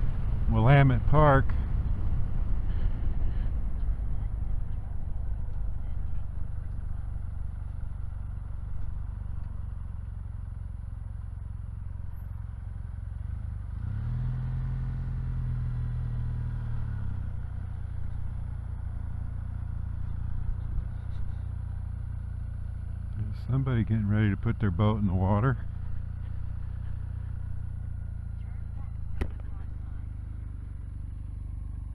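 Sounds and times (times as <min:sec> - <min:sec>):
motorcycle engine rumbling: 0:00.0 - 0:31.9.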